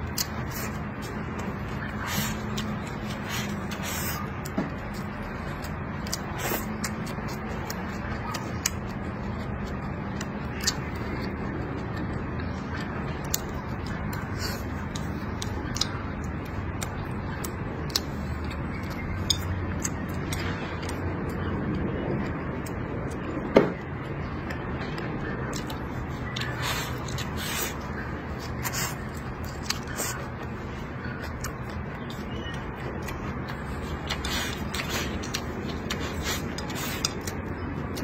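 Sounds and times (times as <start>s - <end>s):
chewing and lip smacking: 0.0s - 38.0s
low background noise: 0.0s - 38.0s.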